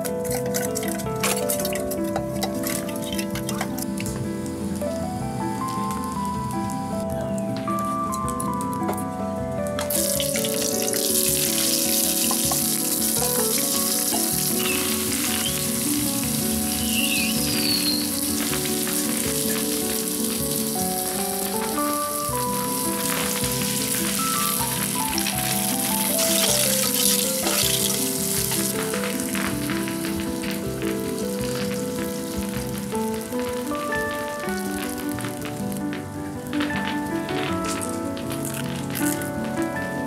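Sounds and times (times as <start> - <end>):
background music with held notes: 0.0 - 40.0
sizzling hiss: 0.0 - 40.0.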